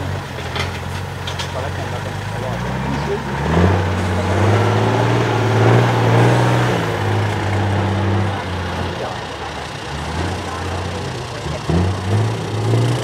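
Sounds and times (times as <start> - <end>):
truck engine working hard: 0.0 - 13.0.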